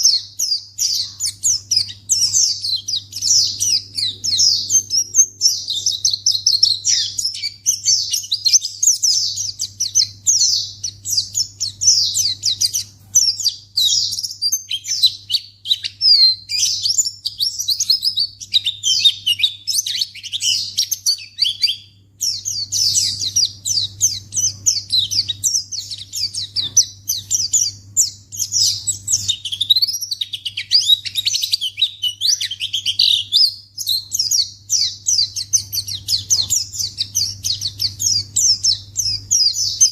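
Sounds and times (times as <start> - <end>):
bird chirping and warbling: 0.0 - 39.9.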